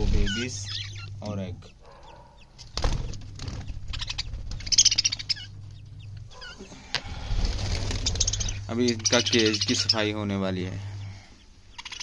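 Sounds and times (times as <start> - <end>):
budgerigars chirping: 0.0 - 12.0
low steady hum: 0.0 - 12.0.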